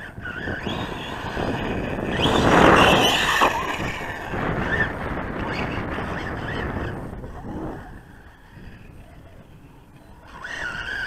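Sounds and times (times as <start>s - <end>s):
electric motor whining: 0.0s - 11.0s
rush of noise: 0.0s - 11.0s.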